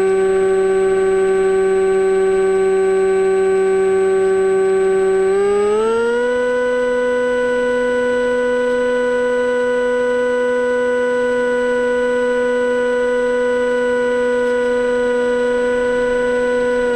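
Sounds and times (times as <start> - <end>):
electric motor and propeller whine: 0.0 - 16.9.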